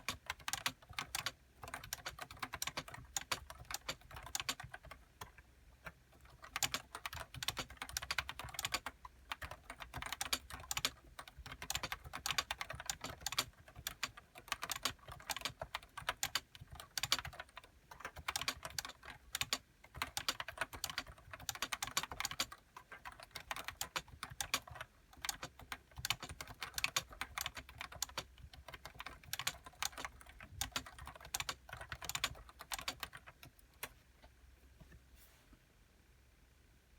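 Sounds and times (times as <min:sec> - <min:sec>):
typing on keyboard: 0:00.0 - 0:34.0.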